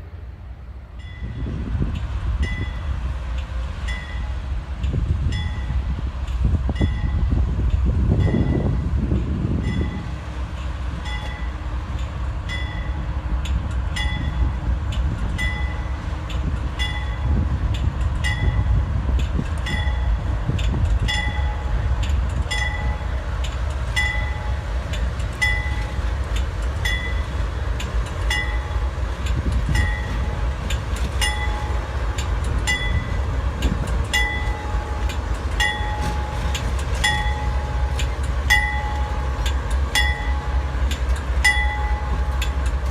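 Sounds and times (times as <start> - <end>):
train rumbling: 0.0 - 42.9.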